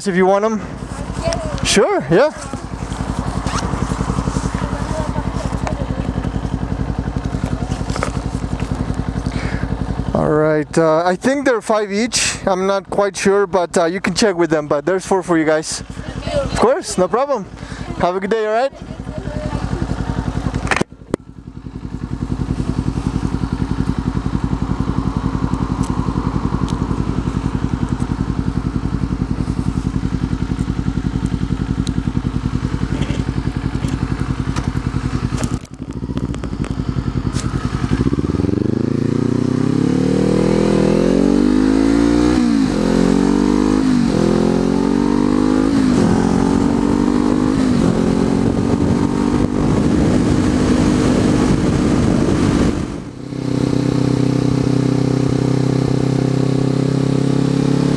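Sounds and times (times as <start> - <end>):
motorcycle engine idling and accelerating: 0.0 - 57.9.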